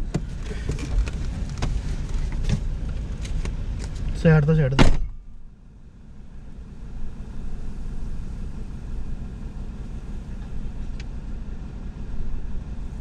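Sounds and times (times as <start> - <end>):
engine rumble inside cabin: 0.0 - 13.0.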